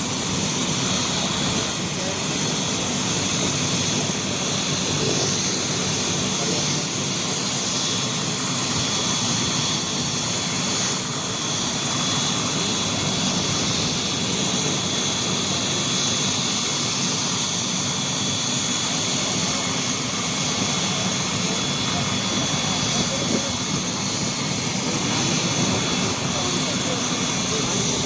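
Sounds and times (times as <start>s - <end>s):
helicopter engine and rotor drone: 0.0s - 28.0s
high turbine whine: 0.0s - 28.0s.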